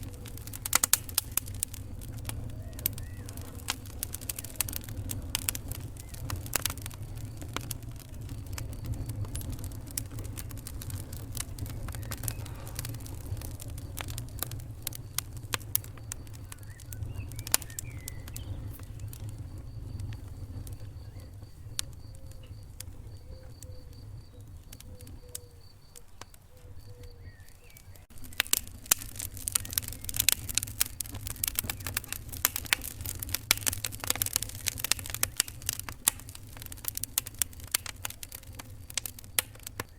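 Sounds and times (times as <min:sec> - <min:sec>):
low rumble of fire: 0:00.0 - 0:39.9
wood fire crackling: 0:00.0 - 0:39.9.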